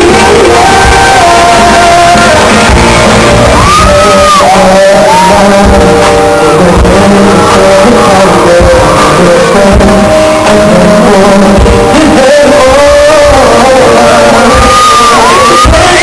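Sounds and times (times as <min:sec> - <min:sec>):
fans shouting and screaming: 0:00.0 - 0:16.0
live pop ballad with male singer: 0:00.0 - 0:16.0.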